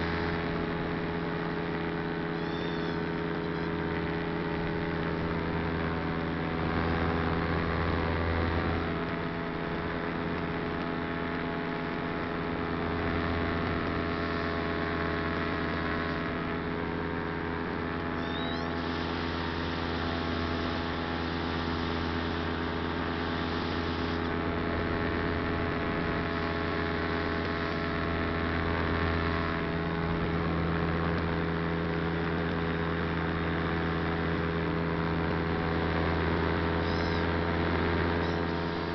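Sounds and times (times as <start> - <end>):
model aircraft motor humming: 0.0 - 38.9.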